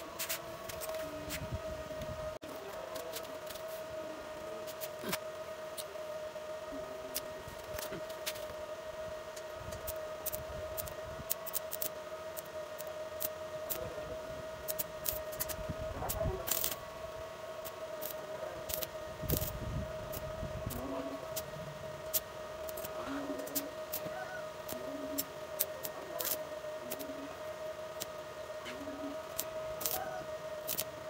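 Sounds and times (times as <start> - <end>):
welding machine humming: 0.0 - 31.0.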